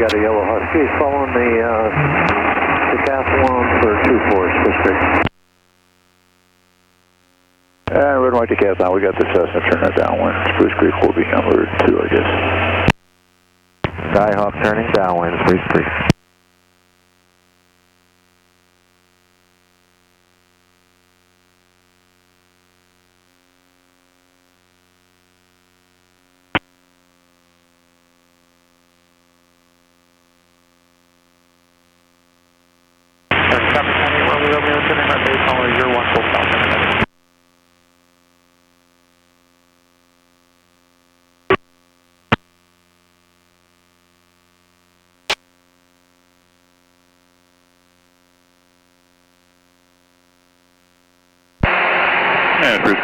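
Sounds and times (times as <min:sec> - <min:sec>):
intercom electrical hum: 0:00.0 - 0:53.0.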